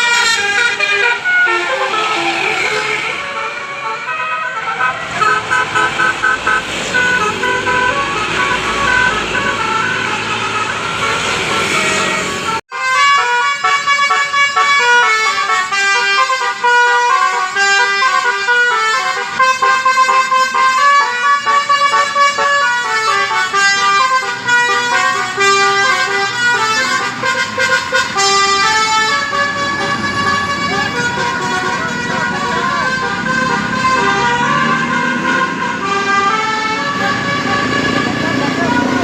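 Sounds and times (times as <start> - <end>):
bus horn playing tune: 0.0 - 39.0.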